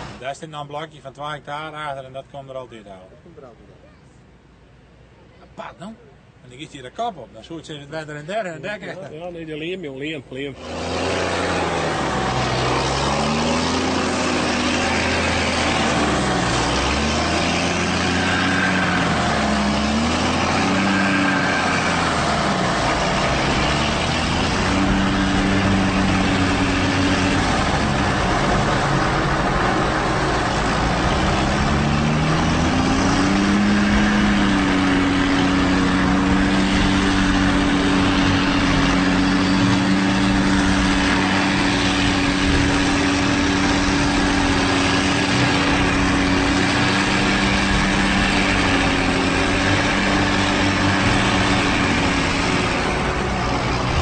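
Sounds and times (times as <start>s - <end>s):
diesel engine revving: 0.0s - 2.2s, 7.4s - 54.0s.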